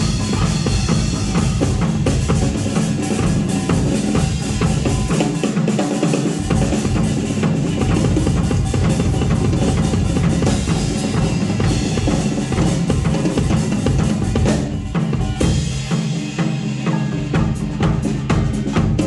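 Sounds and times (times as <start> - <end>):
band music: 0.0 - 19.0
drum kit hits: 0.0 - 19.0.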